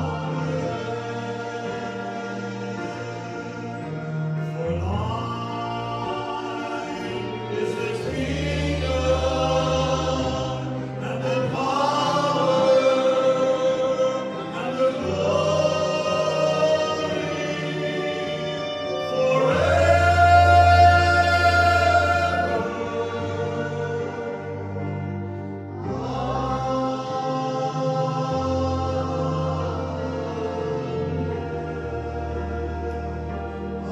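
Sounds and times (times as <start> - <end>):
congregation singing: 0.0 - 33.9.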